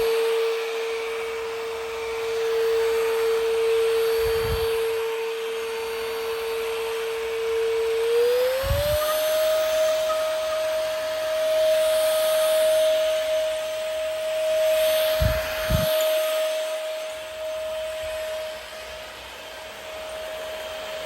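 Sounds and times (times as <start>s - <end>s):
vacuum cleaner motor whining: 0.0s - 21.0s.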